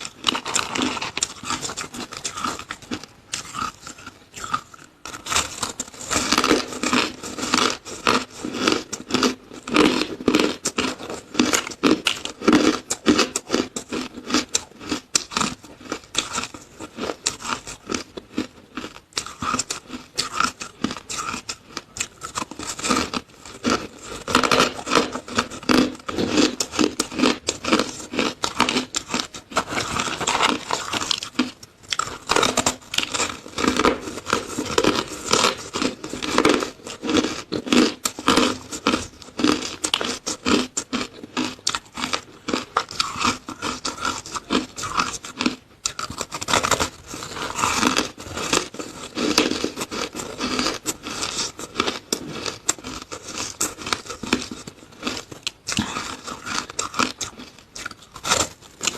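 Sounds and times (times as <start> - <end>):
crunching and chewing shaved ice: 0.0 - 58.9.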